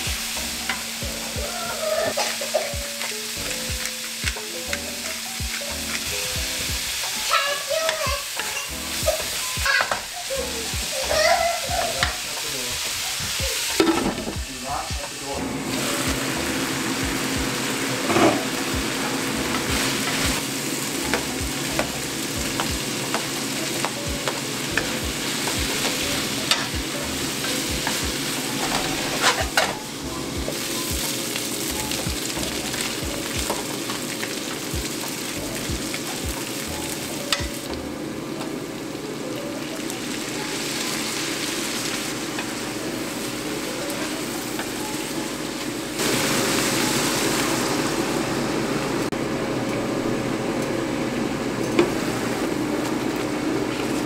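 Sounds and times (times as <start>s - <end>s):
meat sizzling in a wok: 0.0s - 49.5s, 50.2s - 54.0s.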